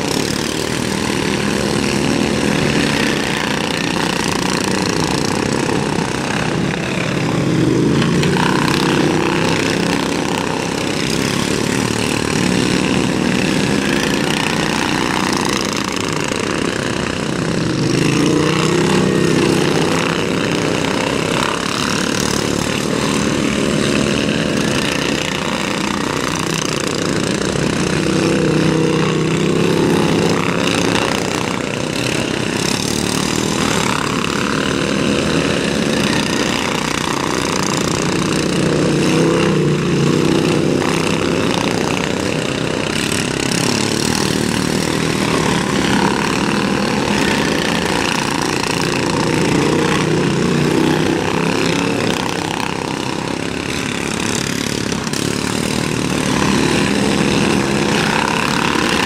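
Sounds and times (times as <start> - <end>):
racing lawn mower engines revving: 0.0 - 59.0.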